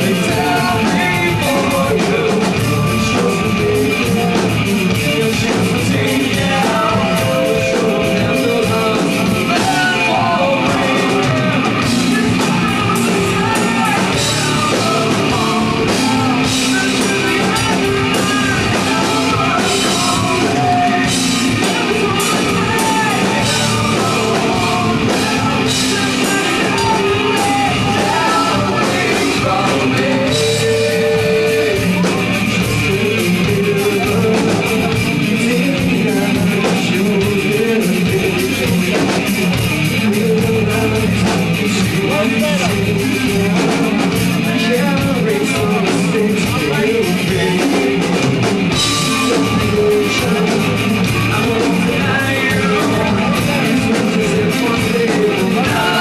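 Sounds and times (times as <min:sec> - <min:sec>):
electric guitars: 0:00.0 - 0:56.0
live rock band: 0:00.0 - 0:56.0
person singing: 0:00.0 - 0:56.0.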